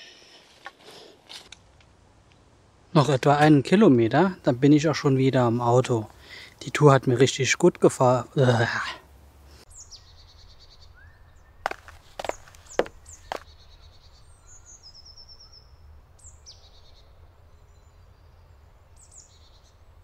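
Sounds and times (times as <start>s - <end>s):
songbirds chirping: 1.9s - 20.0s.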